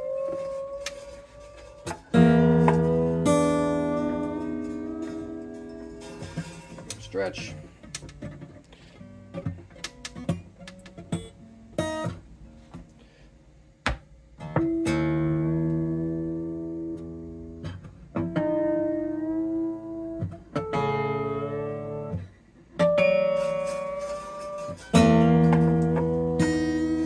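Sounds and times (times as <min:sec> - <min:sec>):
acoustic guitar strings plucked: 0:00.0 - 0:12.8, 0:13.8 - 0:27.0.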